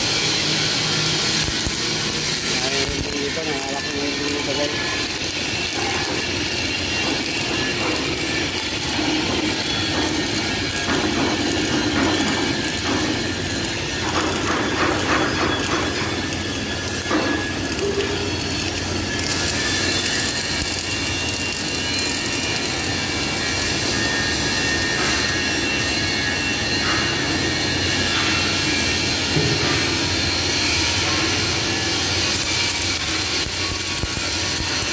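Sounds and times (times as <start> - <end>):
industrial machine noise: 0.0 - 34.9.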